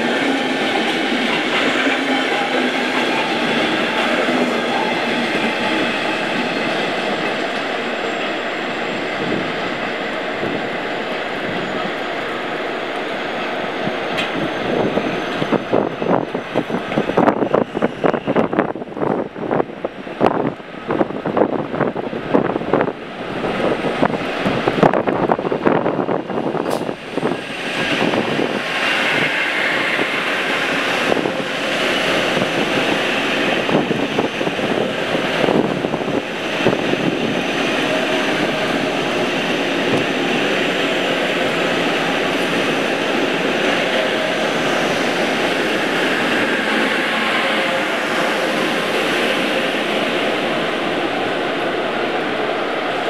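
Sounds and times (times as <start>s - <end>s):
train wheels rushing on rails: 0.0s - 53.0s.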